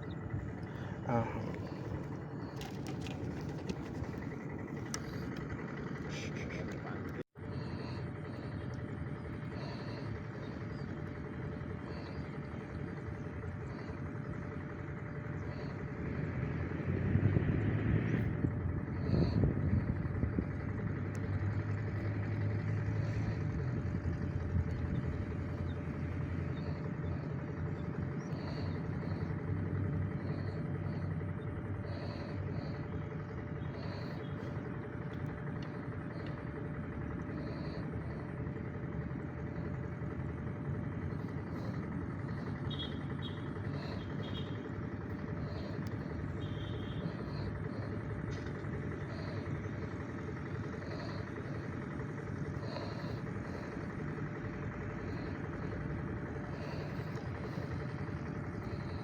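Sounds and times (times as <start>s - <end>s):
low motor rumble: 0.0s - 59.0s.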